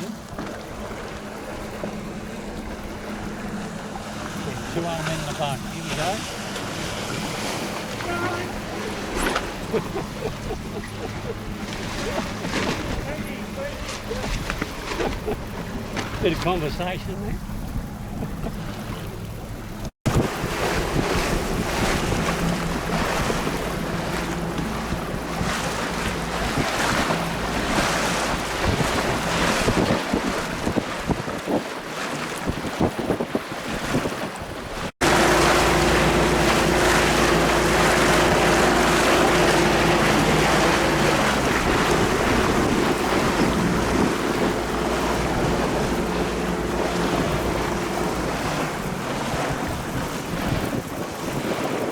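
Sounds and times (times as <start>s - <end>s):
waves and rushing water: 0.0s - 51.9s
wind buffeting microphone: 0.0s - 51.9s
steady low hum: 0.1s - 31.0s, 35.0s - 51.0s.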